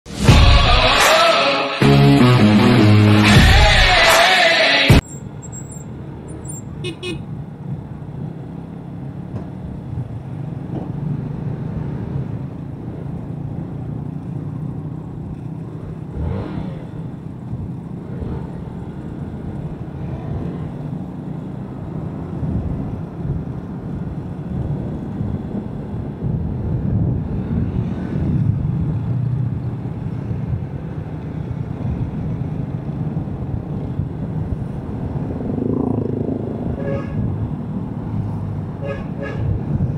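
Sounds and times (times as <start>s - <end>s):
passing traffic: 0.1s - 39.9s
road and wind noise: 0.1s - 39.9s.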